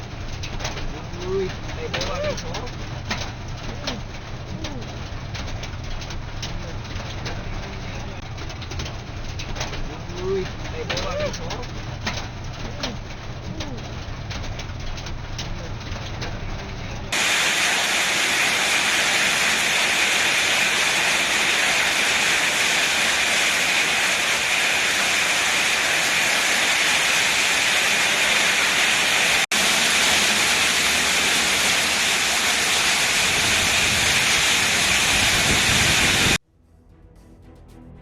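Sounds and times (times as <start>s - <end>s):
hail and rain pouring down: 0.0s - 36.4s.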